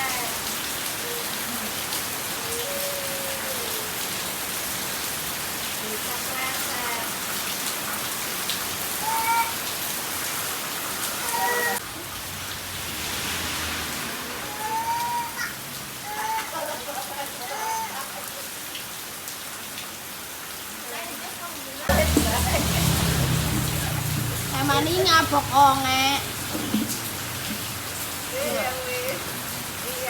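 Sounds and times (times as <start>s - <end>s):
heavy rain on ground and puddles: 0.0s - 30.0s.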